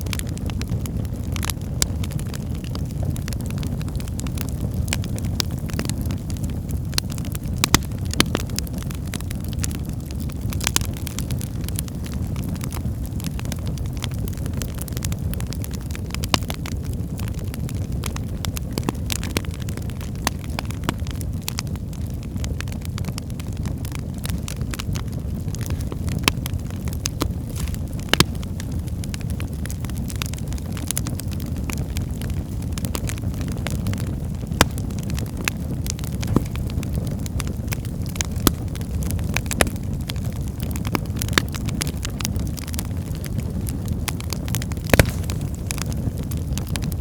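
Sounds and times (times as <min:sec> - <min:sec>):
low rumble of flames: 0:00.0 - 0:47.0
wood fire crackling and popping: 0:00.0 - 0:47.0.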